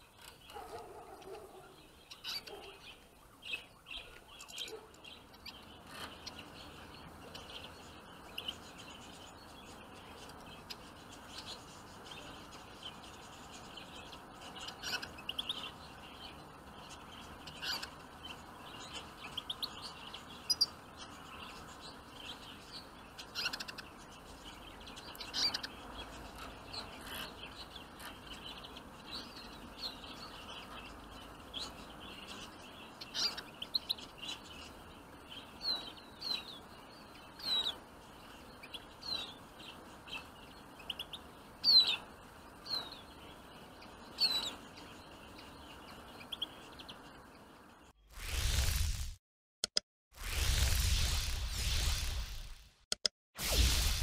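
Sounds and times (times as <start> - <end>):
finches chirping: 0.0 - 47.5.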